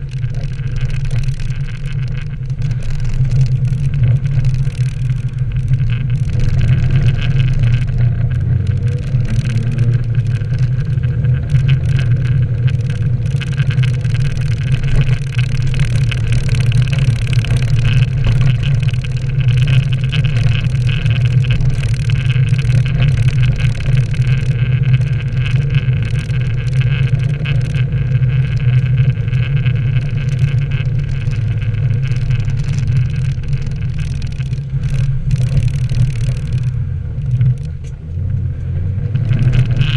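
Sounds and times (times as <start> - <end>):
car engine drone: 0.0 - 39.9
tyre noise on wet road: 0.0 - 39.9.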